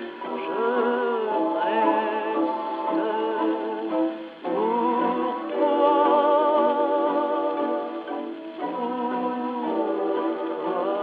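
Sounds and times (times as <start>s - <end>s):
old gramophone record music: 0.0s - 11.0s.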